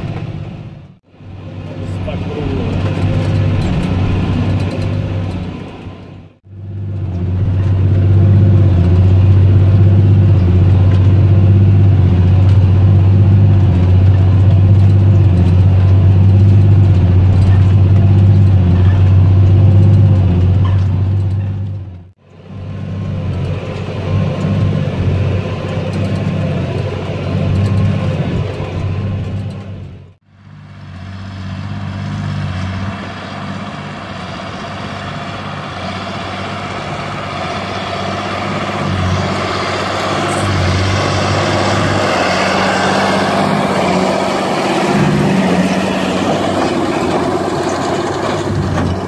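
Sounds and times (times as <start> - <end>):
tractor diesel engine running: 0.0 - 49.0
hay baler running: 1.2 - 21.7, 22.5 - 49.0.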